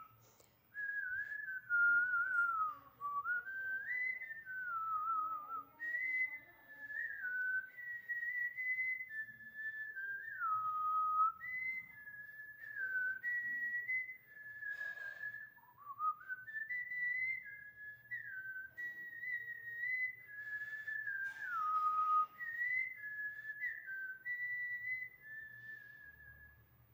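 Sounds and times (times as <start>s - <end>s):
woman whistling a melody: 0.0s - 26.9s.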